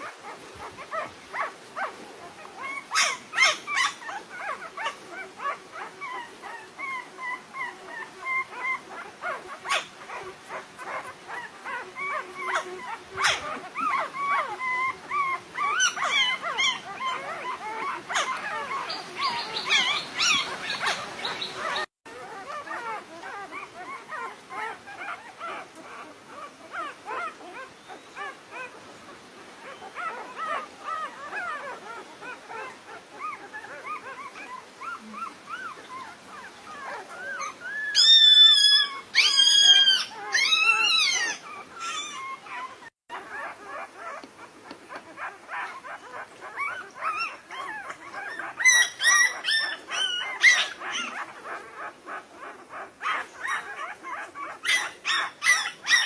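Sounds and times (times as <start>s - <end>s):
dog yelps: 0.0s - 28.8s, 29.6s - 56.0s
dogs whimpering and whining: 0.0s - 56.0s.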